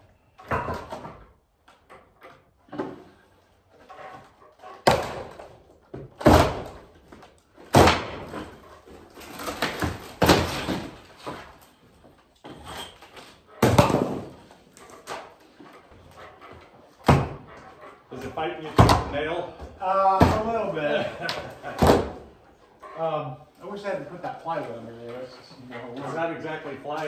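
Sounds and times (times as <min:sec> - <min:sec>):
wooden paneling cracking and banging: 0:00.1 - 0:22.4.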